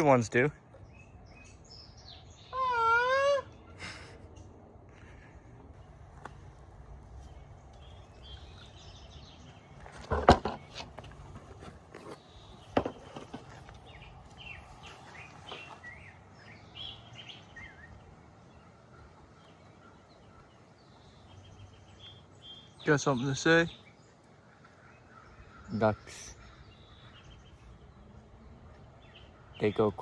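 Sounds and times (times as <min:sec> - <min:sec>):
birds chirping: 0:00.0 - 0:30.0
outdoor background noise: 0:00.0 - 0:30.0.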